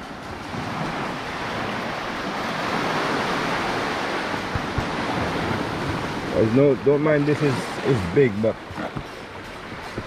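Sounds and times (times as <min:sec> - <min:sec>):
sea surf washing in: 0:00.0 - 0:10.0.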